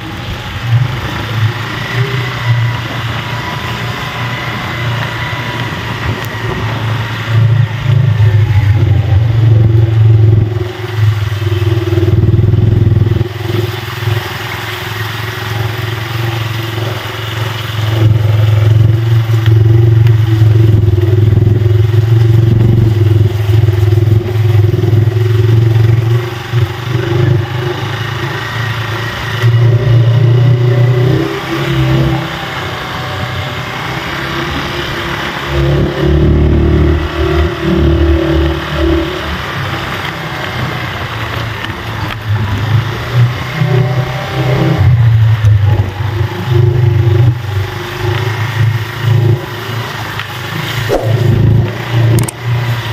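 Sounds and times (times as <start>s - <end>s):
small motorcycle engine running: 0.0s - 52.9s.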